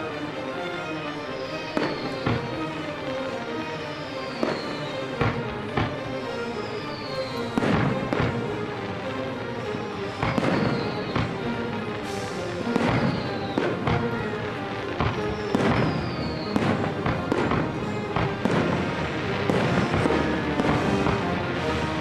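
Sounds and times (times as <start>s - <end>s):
music playing: 0.0s - 22.0s.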